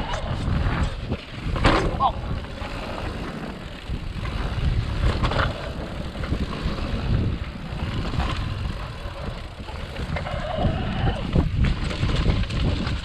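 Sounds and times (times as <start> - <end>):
bike rumbling and rattling on dirt: 0.0 - 13.0
wind buffeting the microphone: 0.0 - 13.0.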